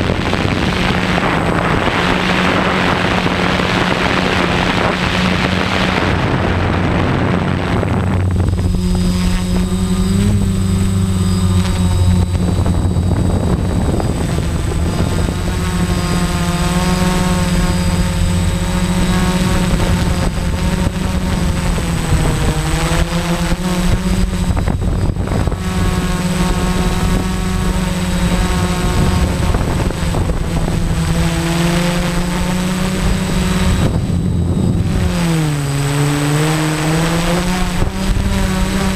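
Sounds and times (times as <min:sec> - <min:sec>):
drone propellers buzzing: 0:00.0 - 0:38.9
wind on microphone: 0:00.0 - 0:38.9.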